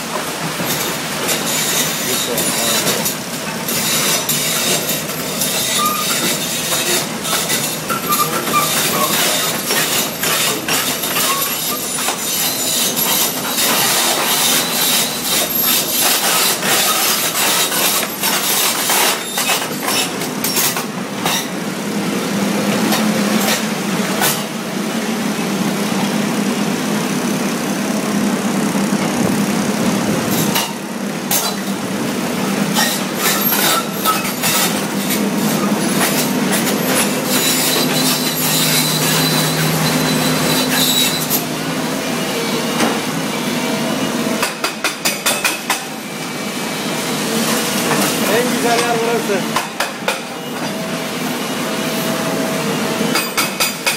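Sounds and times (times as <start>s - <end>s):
excavator engine running: 0.0s - 53.9s.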